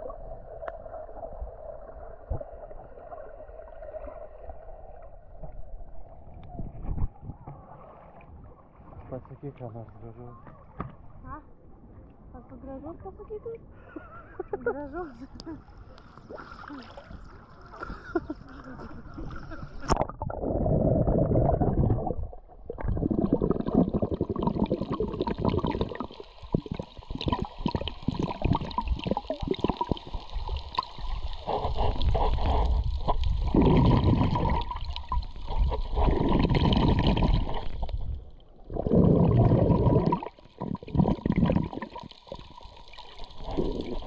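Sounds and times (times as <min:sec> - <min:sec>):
water sloshing and gurgling: 0:00.0 - 0:44.0.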